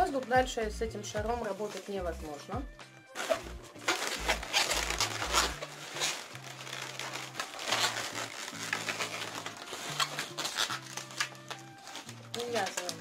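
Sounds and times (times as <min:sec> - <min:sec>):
background music with bass line: 0:00.0 - 0:12.5
balloons rubbing and crinkling: 0:01.3 - 0:02.4, 0:03.1 - 0:13.0.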